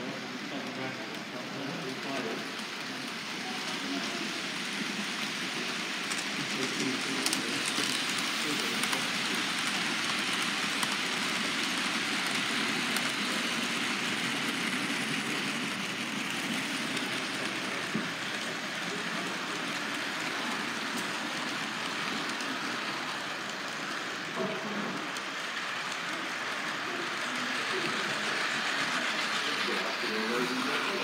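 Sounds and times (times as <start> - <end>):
model train whirring: 0.0 - 31.0.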